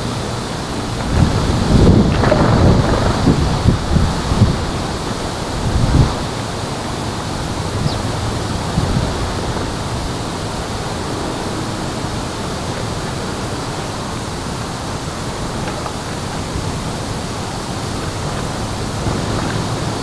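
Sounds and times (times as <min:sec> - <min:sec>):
steady rushing wind or water: 0:00.0 - 0:20.0.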